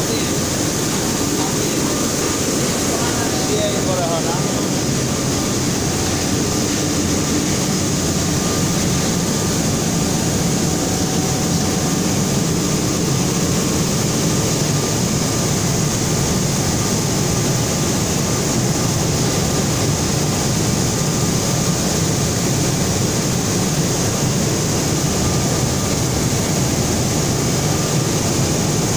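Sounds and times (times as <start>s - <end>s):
faint high whine: 0.0s - 28.9s
machine mechanical drone: 0.0s - 28.9s.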